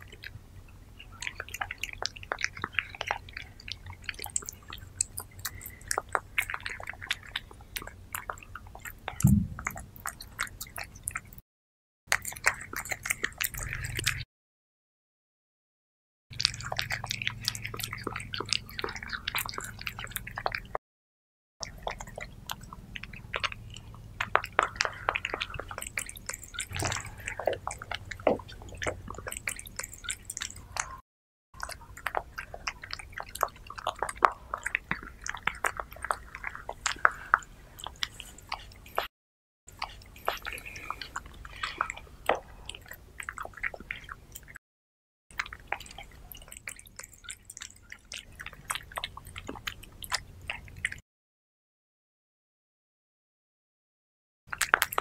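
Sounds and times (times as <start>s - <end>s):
cat eating wet food: 0.0s - 11.4s, 12.1s - 14.2s, 16.3s - 20.8s, 21.6s - 31.0s, 31.6s - 39.1s, 39.7s - 44.6s, 45.3s - 51.0s, 54.5s - 55.0s.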